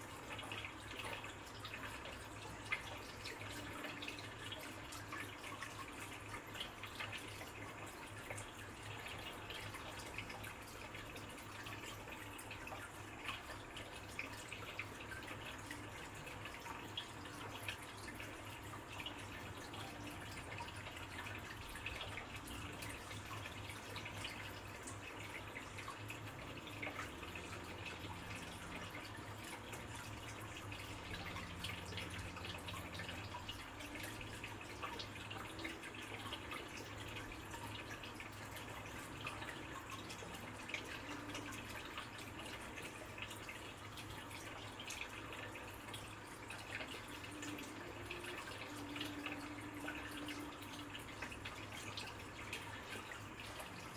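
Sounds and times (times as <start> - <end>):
water trickling and dripping: 0.0 - 53.9.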